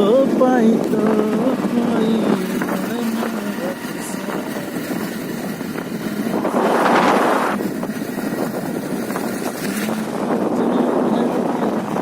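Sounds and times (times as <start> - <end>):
motorcycle running: 0.0 - 12.0
wind buffeting microphone: 0.0 - 12.0.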